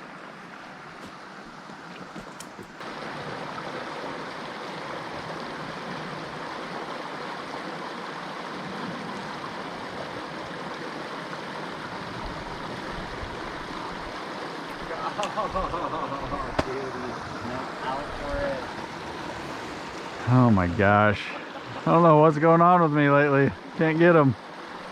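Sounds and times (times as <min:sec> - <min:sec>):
stream water running over rocks: 0:00.0 - 0:24.9.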